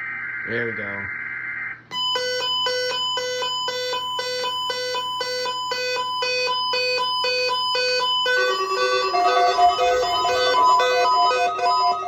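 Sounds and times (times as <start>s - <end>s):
alarm beeping: 0.0s - 12.0s.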